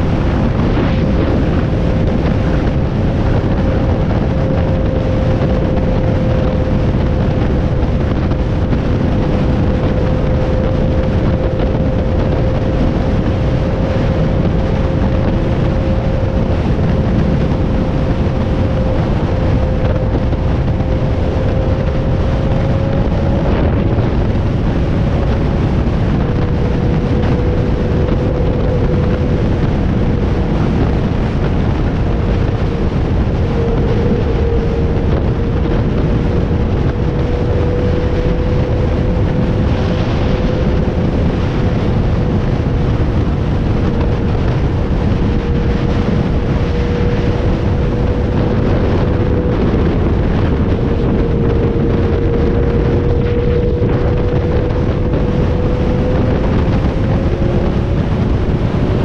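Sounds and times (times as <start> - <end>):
vehicle engine running: 0.0 - 59.0
wind rush on microphone: 0.0 - 59.0.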